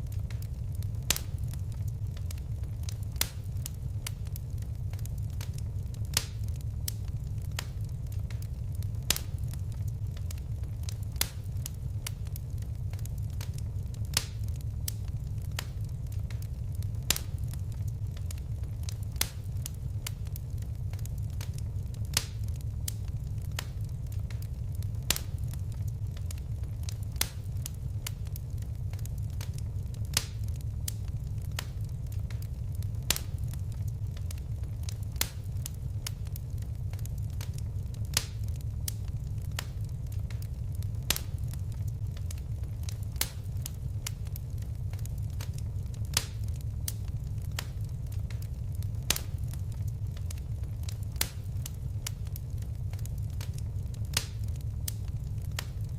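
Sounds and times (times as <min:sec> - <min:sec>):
fire crackling: 0:00.0 - 0:55.9
fire popping: 0:00.0 - 0:55.9.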